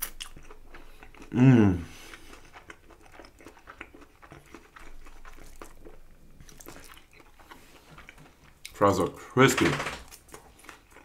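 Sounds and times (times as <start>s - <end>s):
person chewing crispy fries: 0.0s - 9.2s, 10.0s - 11.0s.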